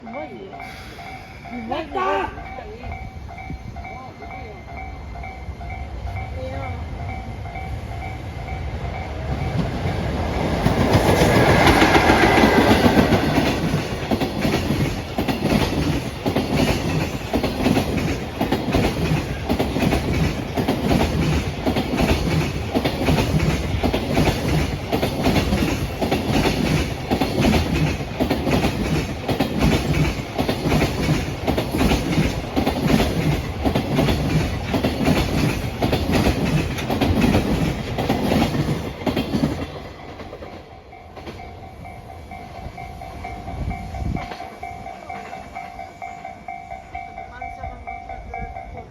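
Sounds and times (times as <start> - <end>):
electric locomotive passing: 0.0 - 48.9.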